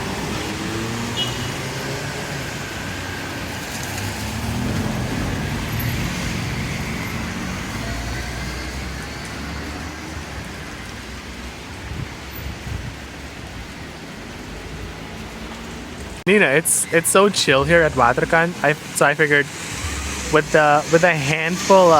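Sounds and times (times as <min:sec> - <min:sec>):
vehicle passing: 0:00.0 - 0:11.0, 0:14.2 - 0:21.9.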